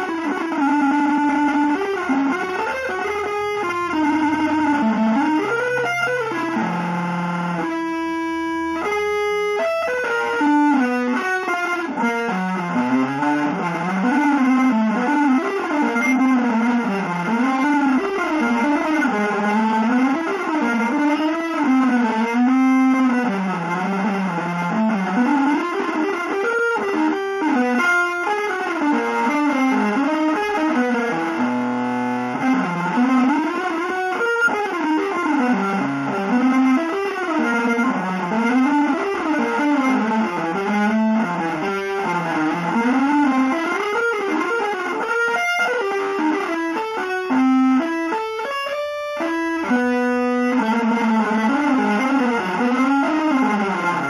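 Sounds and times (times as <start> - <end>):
electric guitar single-note line: 0.0 - 54.0.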